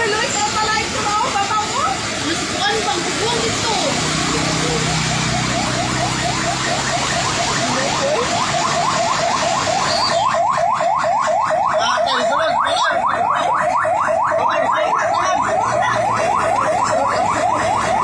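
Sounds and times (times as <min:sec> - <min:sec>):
floodwater rushing: 0:00.0 - 0:18.0
electronic siren yelping: 0:02.6 - 0:18.0.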